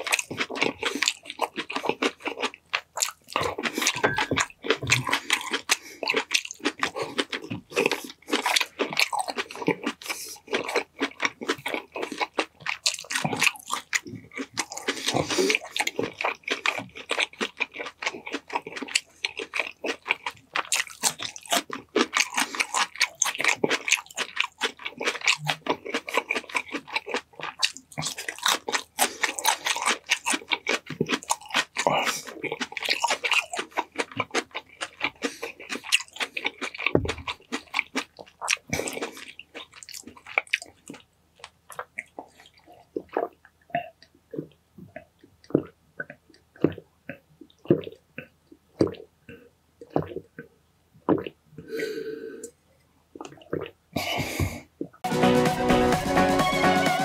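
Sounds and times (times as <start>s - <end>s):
person chewing food: 0.0s - 55.1s.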